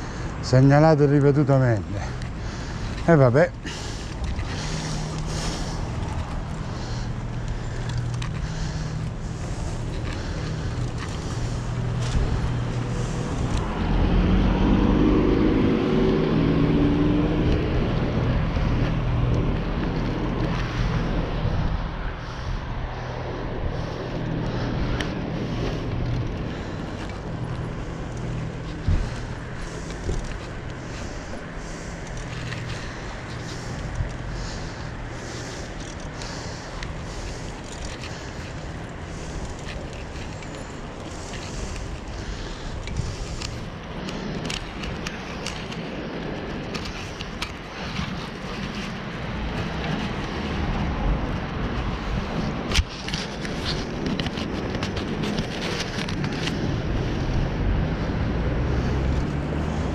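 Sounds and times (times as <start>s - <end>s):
vehicle road and wind noise: 0.0s - 59.9s.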